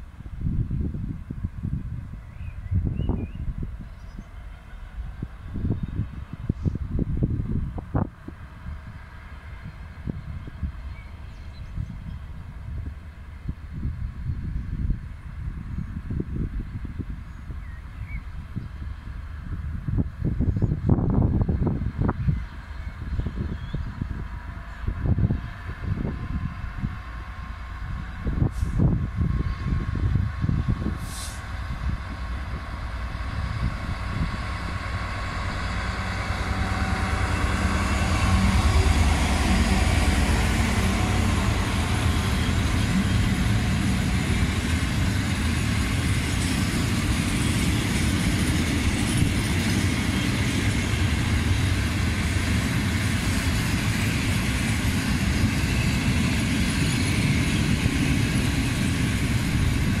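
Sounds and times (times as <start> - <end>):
diesel locomotive engine droning: 0.0 - 60.0.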